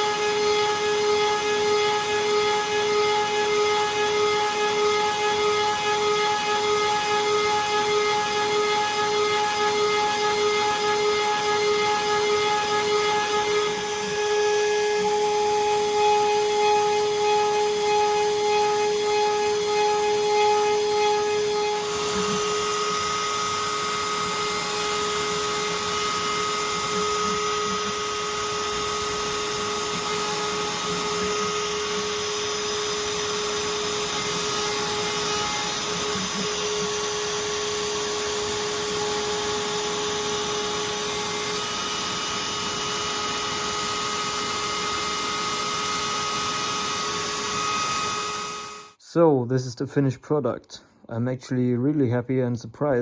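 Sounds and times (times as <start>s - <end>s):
end mill cutting metal: 0.0s - 48.9s
router spindle high whine: 0.0s - 49.0s.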